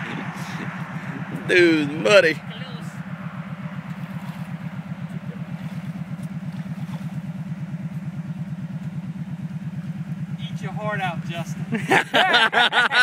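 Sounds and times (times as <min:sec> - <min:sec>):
quad bike engine idling: 0:00.0 - 0:13.0.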